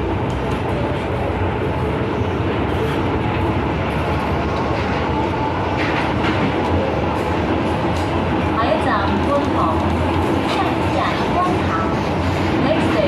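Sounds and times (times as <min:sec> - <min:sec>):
train wheels running on rails: 0:00.0 - 0:13.0.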